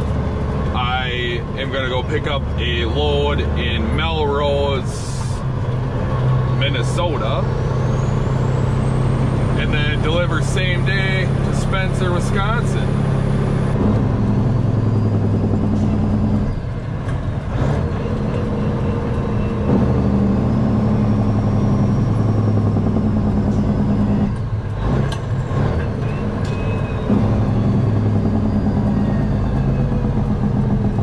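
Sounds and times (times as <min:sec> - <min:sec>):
diesel truck engine under load: 0:00.0 - 0:31.0.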